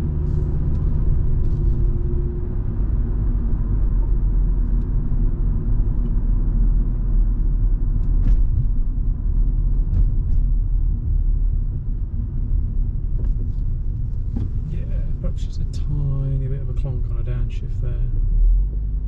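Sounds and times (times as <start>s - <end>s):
car engine running: 0.0s - 19.0s
road rumble: 0.0s - 19.0s.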